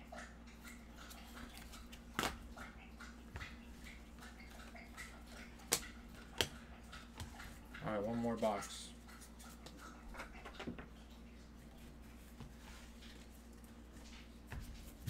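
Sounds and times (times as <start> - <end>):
dog lapping water: 0.0 - 12.1.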